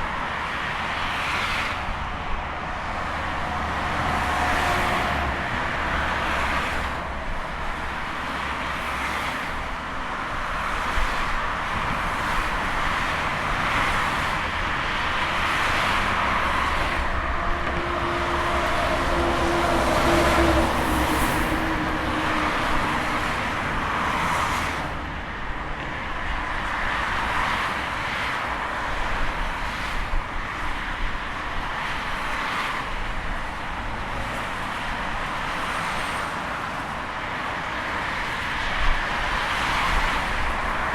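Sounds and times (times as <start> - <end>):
highway traffic passing: 0.0 - 40.9.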